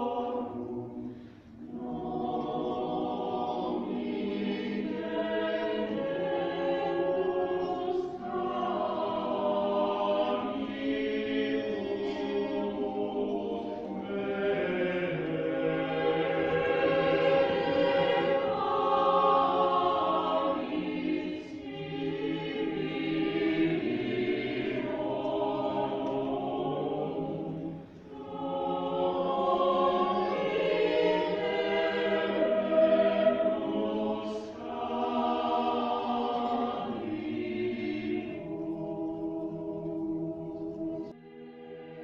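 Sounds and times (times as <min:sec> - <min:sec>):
mixed choir singing: 0:00.0 - 0:42.0.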